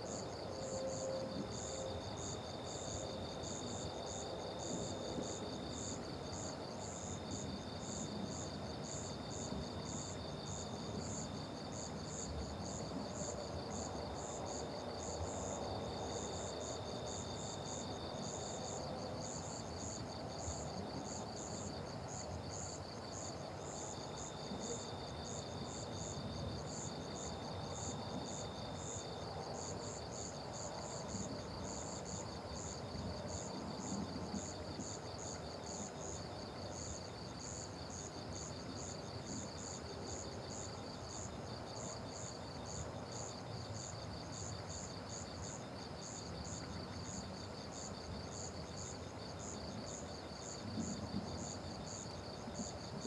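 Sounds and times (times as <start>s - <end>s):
cricket chirping in pulses: 0.0s - 53.0s
insect steady buzz: 0.0s - 53.0s
low background noise: 0.0s - 53.0s.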